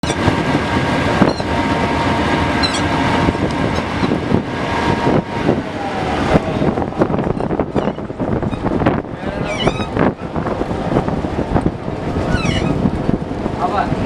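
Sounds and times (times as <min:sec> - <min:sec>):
boat engine running: 0:00.0 - 0:14.0
wind noise: 0:00.0 - 0:14.0.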